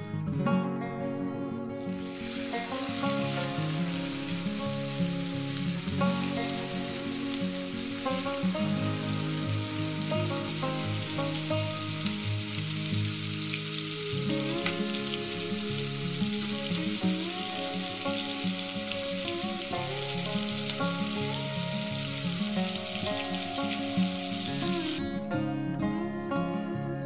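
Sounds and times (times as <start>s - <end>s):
background music: 0.0s - 27.0s
chicken sizzling in frying pan: 1.9s - 25.0s.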